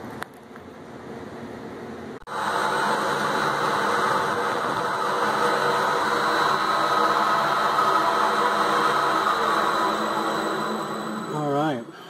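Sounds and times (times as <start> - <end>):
faint hum: 0.0 - 12.0
wood lathe whirring: 2.3 - 12.0.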